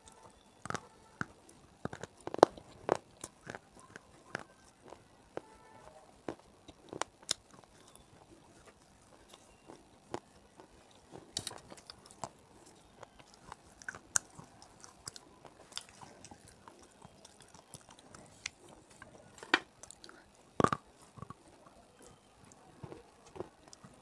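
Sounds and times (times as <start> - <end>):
chewing hard brittle pieces: 0.0 - 5.5, 6.2 - 24.0.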